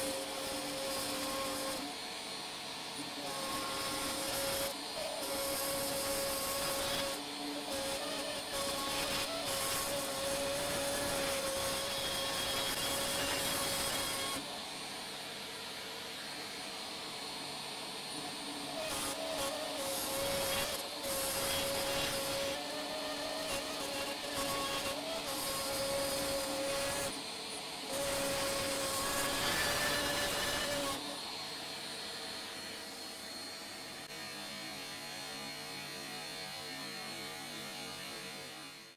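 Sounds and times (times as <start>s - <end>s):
router motor whining: 0.0s - 38.9s.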